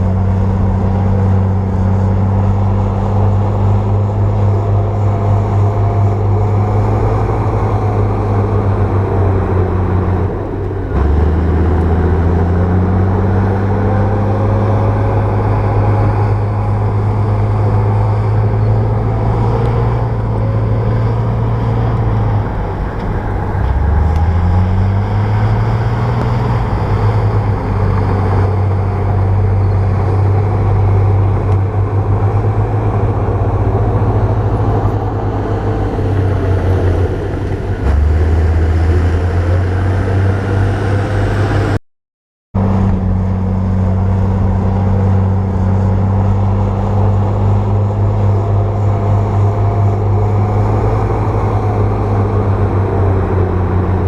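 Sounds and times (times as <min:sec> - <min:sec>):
bulldozer diesel engine under load: 0:00.0 - 0:41.8, 0:42.6 - 0:54.0.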